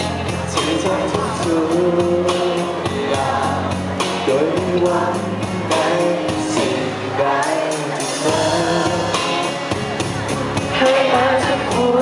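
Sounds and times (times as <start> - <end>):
backing music with steady beat: 0.0 - 12.0
man singing into microphone: 0.3 - 9.7, 10.6 - 12.0.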